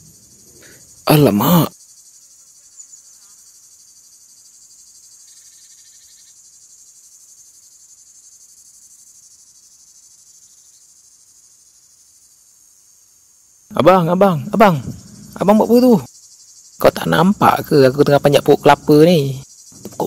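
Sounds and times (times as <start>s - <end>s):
crickets chirring: 0.0s - 20.0s
lower insect trill: 0.0s - 20.0s.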